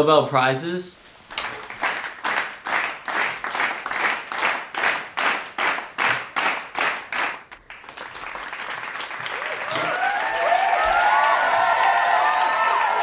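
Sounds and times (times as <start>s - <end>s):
hands clapping: 1.3s - 13.0s.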